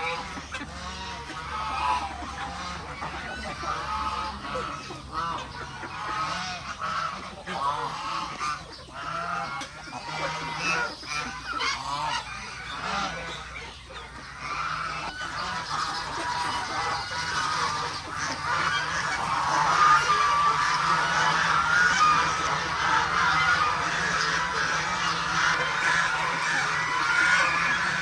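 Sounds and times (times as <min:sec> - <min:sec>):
ducks and chickens: 0:00.0 - 0:28.0
geese honking: 0:00.0 - 0:28.0.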